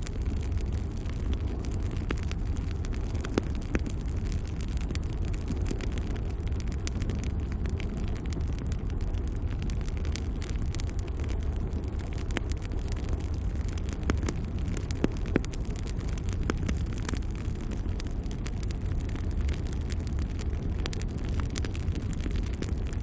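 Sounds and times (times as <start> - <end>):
logs burning in fireplace: 0.0 - 23.0.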